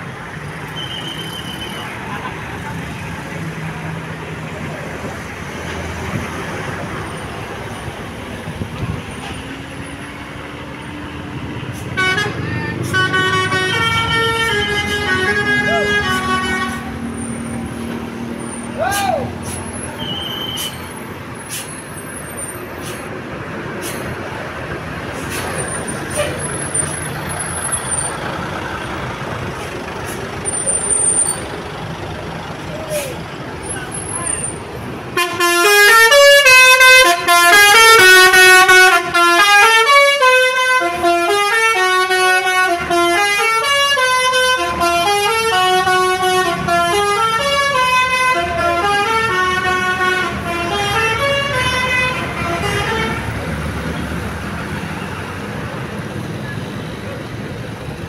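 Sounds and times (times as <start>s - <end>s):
bus diesel engine running: 0.0s - 58.0s
passing traffic rushing: 0.0s - 58.0s.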